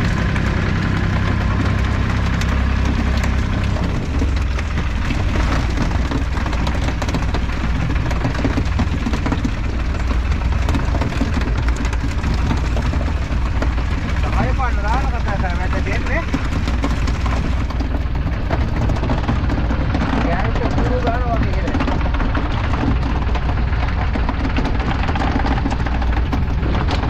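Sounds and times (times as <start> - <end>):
boat engine running: 0.0 - 27.0
water splashing along hull: 0.0 - 27.0.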